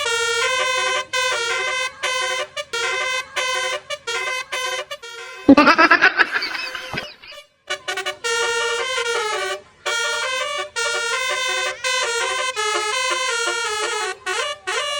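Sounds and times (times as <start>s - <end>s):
bus air horn playing a tune: 0.0s - 5.6s, 6.4s - 14.9s.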